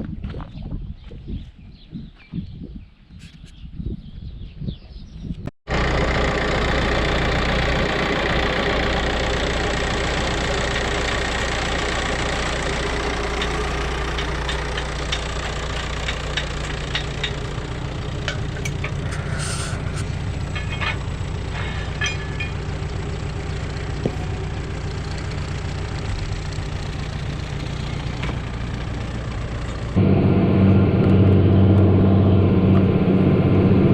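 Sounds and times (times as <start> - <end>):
tractor engine running: 5.7 - 33.9.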